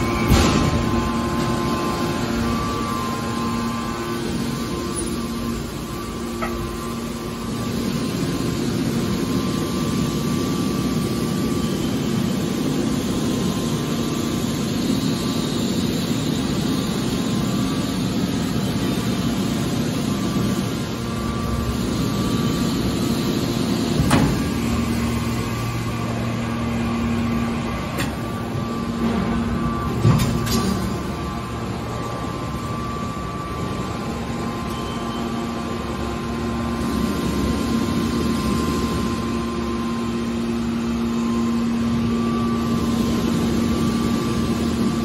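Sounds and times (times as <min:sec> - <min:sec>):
baler mechanical hum and hiss: 0:00.0 - 0:45.0.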